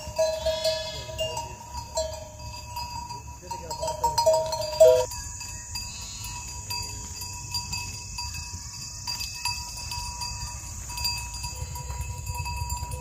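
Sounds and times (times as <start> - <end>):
livestock bells clinking: 0.0 - 13.0.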